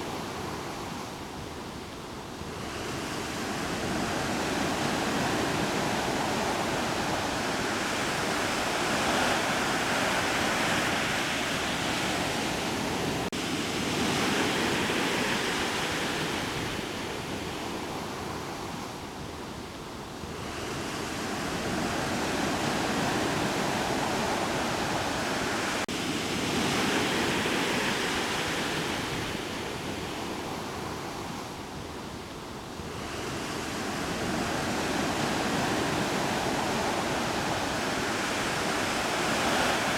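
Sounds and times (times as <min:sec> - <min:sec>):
ocean surf washing ashore: 0:00.0 - 0:39.9.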